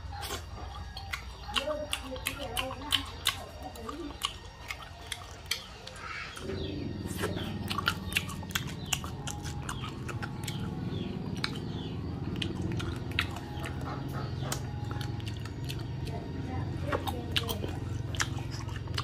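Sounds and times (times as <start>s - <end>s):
low steady hum: 0.0s - 19.0s
person chewing: 0.0s - 19.0s.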